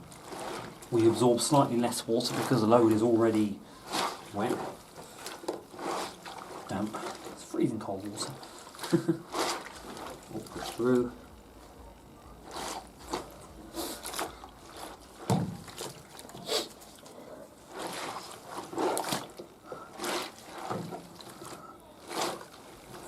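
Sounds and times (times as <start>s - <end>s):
wet cloths squeezed in water: 0.0s - 11.4s, 12.4s - 23.0s
water splashing and dribbling: 0.0s - 23.0s.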